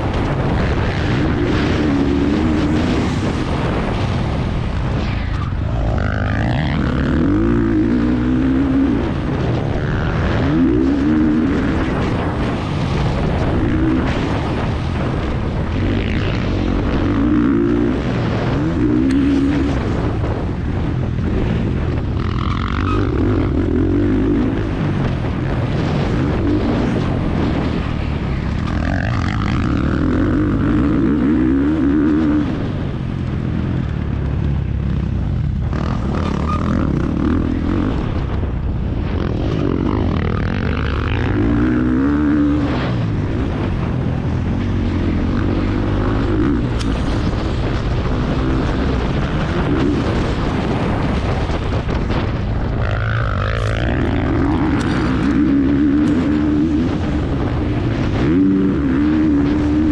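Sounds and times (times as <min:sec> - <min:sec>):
motocross motorcycle engine revving: 0:00.0 - 0:59.9.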